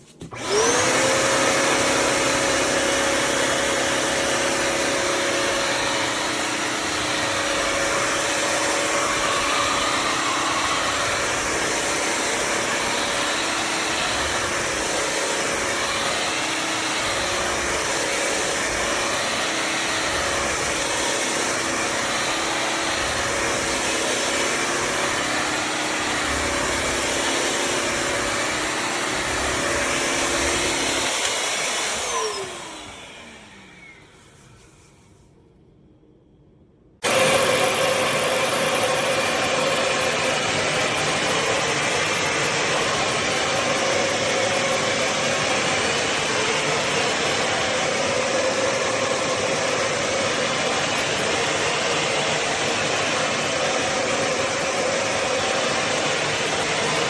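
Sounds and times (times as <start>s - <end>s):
vacuum motor whine and suction: 0.0s - 35.2s, 37.0s - 57.0s.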